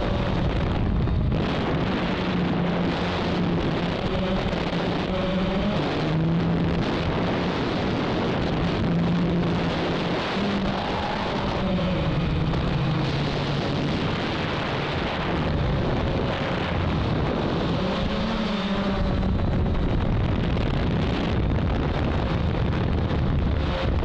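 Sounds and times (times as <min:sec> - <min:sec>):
drone motors and propellers droning: 0:00.0 - 0:24.0
wind on microphone: 0:00.0 - 0:24.0.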